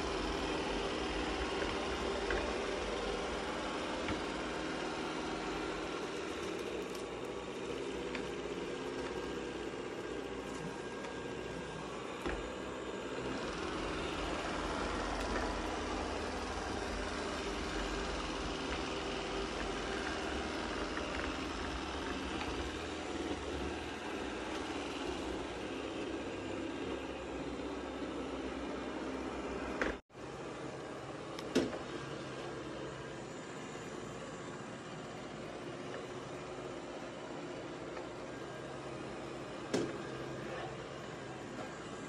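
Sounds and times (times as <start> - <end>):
robot vacuum whirring: 0.0 - 42.0.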